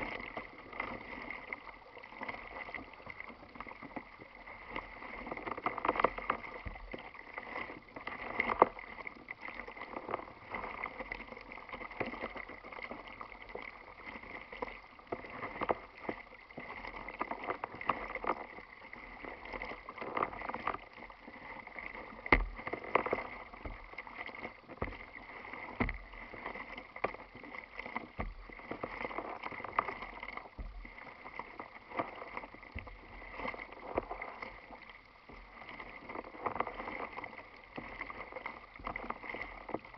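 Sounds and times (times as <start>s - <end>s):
water slapping against kayak hull: 0.0s - 39.9s.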